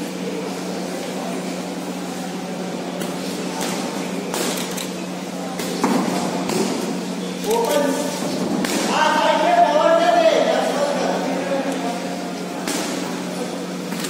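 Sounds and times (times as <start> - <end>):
murmur of voices: 0.0 - 14.0.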